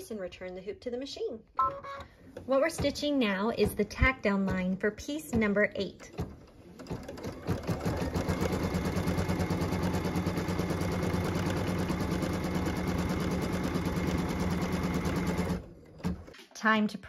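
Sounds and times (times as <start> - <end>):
embroidery machine stitching: 2.6 - 16.3.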